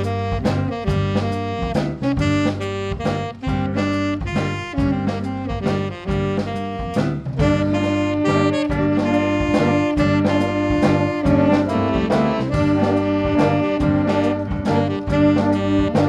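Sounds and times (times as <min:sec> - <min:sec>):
jazz music with saxophone and brass: 0:00.0 - 0:16.0.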